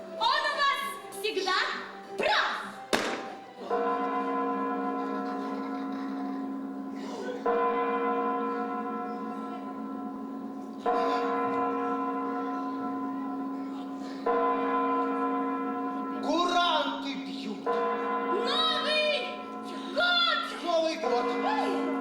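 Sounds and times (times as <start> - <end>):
deep clock bell chiming: 3.6 - 22.0.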